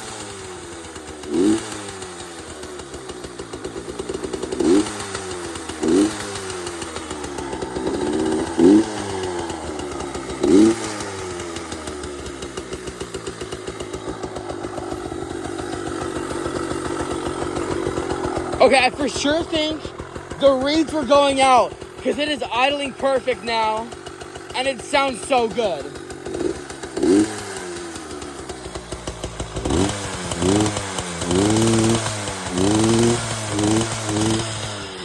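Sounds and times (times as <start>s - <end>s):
two-stroke engine idling: 0.0s - 35.0s
two-stroke engine throttle blips: 0.0s - 35.0s.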